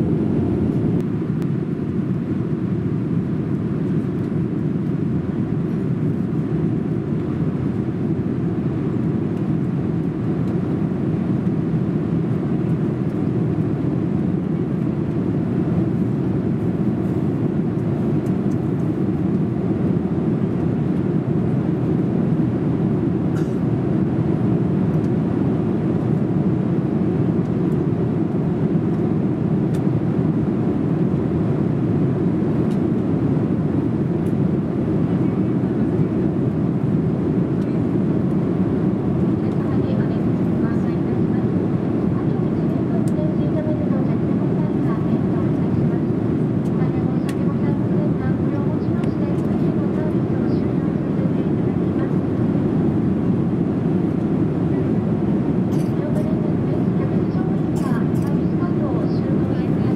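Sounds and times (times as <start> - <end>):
airliner cabin engine and airflow rush: 0.0 - 59.9.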